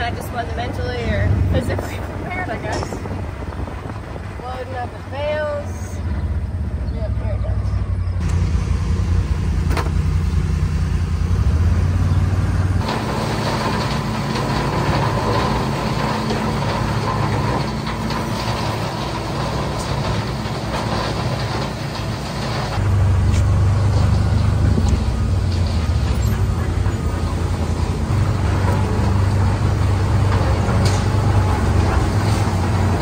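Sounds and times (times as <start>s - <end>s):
bale processor rushing whir: 0.0s - 33.0s
vehicle engine humming: 0.0s - 33.0s.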